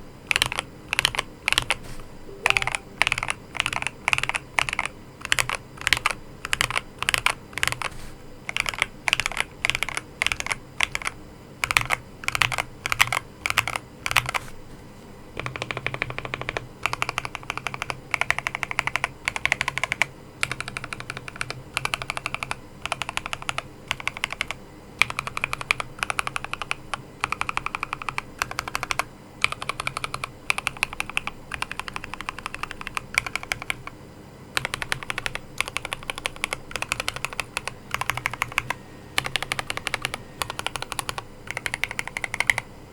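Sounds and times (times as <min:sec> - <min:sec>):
mechanical keyboard typing: 0:00.3 - 0:07.9, 0:08.5 - 0:14.4, 0:15.4 - 0:34.0, 0:34.6 - 0:42.7.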